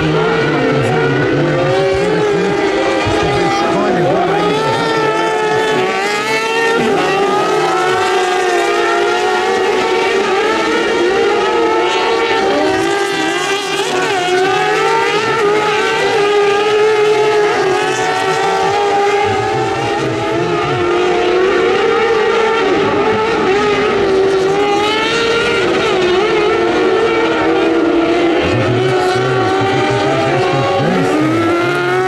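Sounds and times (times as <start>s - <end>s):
racing buggy engines revving: 0.0s - 32.0s.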